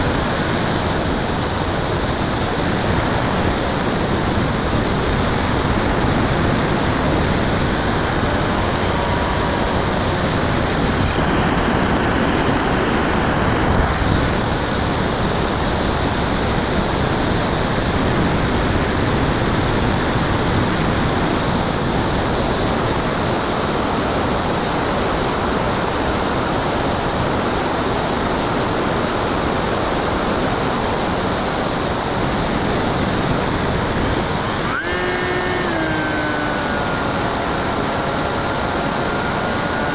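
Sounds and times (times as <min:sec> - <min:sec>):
high whine of electric motor: 0:00.0 - 0:39.9.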